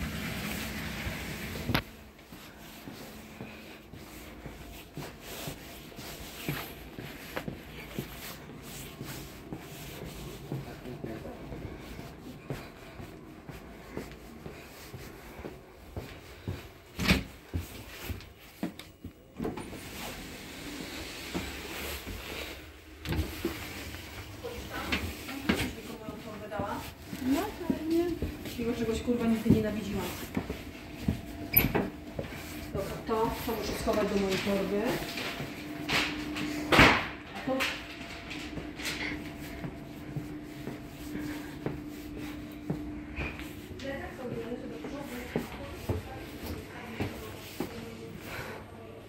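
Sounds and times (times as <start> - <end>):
soft footsteps: 0.0 - 49.0
train carriage interior noise: 0.0 - 49.0.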